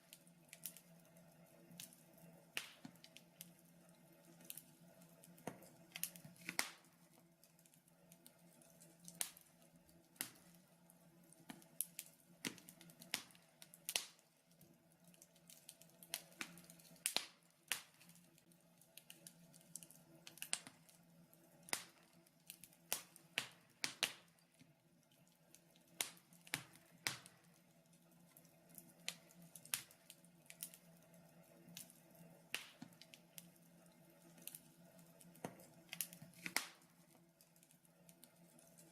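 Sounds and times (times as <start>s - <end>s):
faint steady hum: 0.0s - 38.9s
wood fire crackling: 0.0s - 38.9s.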